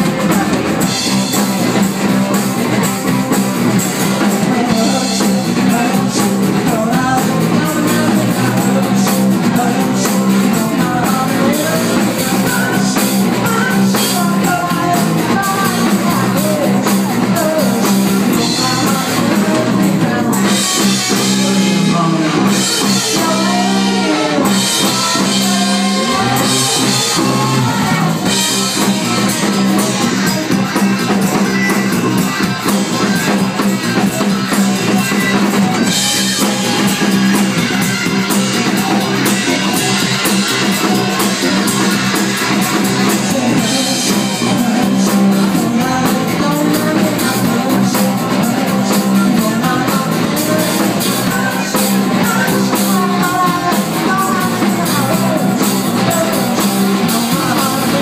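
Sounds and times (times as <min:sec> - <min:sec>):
live rock band: 0:00.0 - 0:58.0
man singing: 0:00.0 - 0:58.0.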